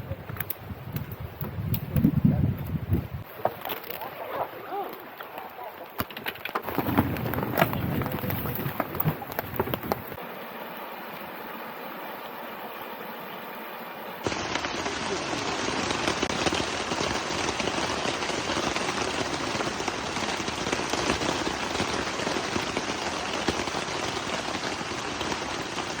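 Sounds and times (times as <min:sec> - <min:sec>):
heavy rain pattering: 0:00.0 - 0:10.9, 0:14.2 - 0:26.0.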